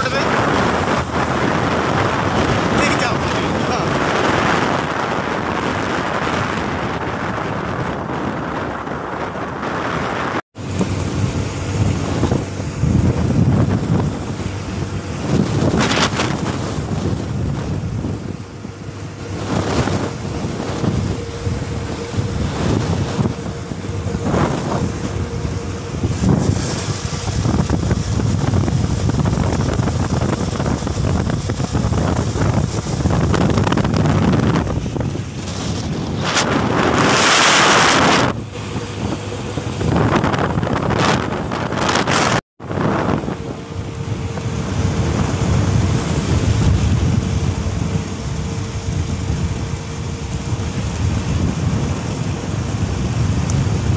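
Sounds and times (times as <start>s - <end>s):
road noise: 0.0s - 53.9s
wind buffeting microphone: 0.0s - 53.9s.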